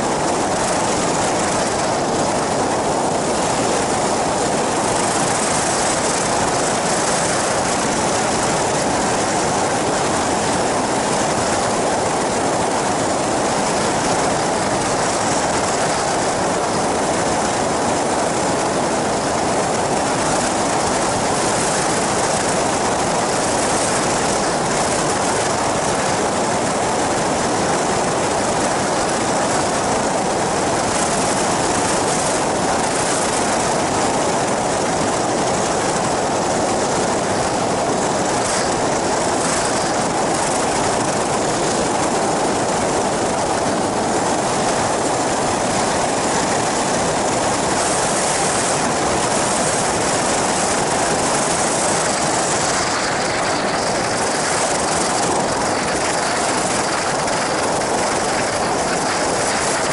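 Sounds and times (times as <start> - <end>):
aircraft engine and propeller: 0.0 - 59.9
wind rushing over microphone: 0.0 - 59.9.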